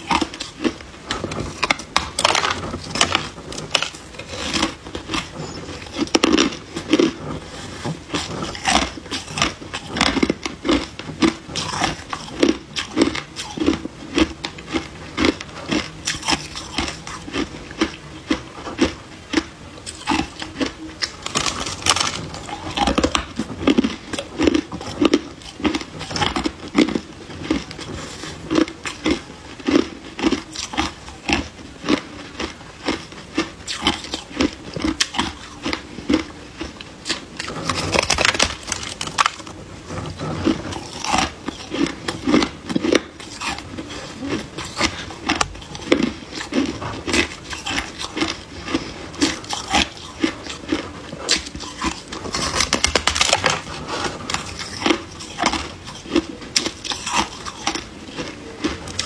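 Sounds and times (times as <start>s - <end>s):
chewing crushed ice: 0.0s - 59.0s.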